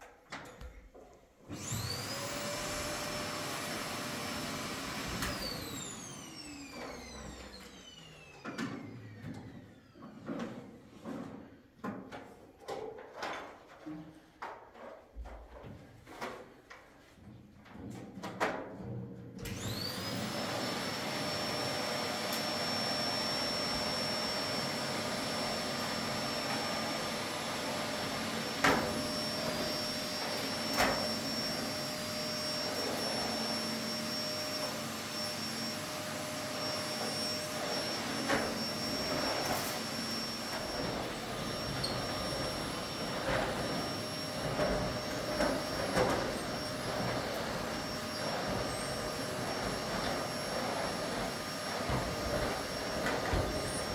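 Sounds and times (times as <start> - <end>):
vacuum cleaner motor whine: 1.5 - 10.6, 19.4 - 53.9.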